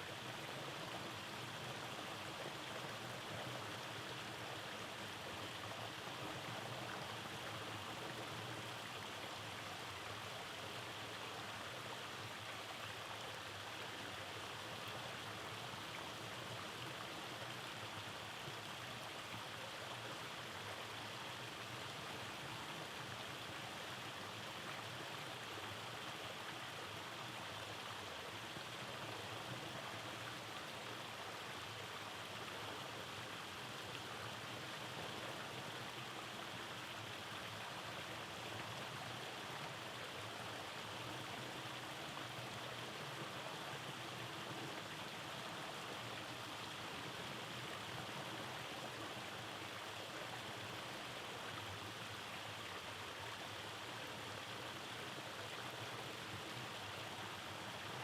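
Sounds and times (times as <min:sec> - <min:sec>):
stream rushing over cascades: 0:00.0 - 0:58.0.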